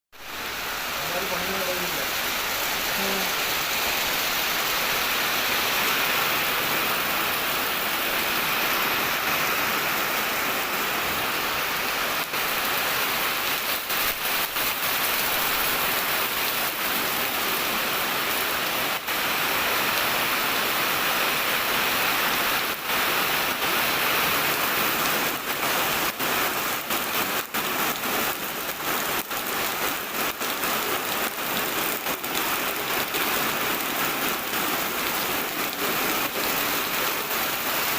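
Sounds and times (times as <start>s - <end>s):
heavy rain falling: 0.1s - 37.9s.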